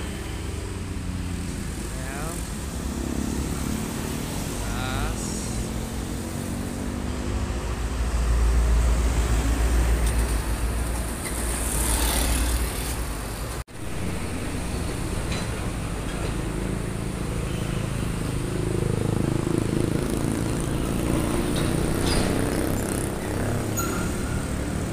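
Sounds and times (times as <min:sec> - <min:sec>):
diesel trucks passing: 0:00.0 - 0:24.9.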